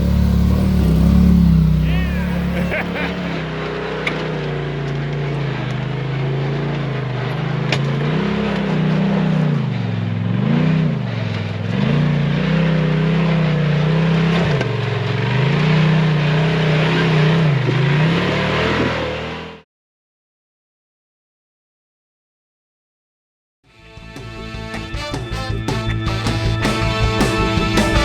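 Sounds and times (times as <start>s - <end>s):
utility vehicle engine revving: 0.0s - 19.6s, 24.0s - 28.0s.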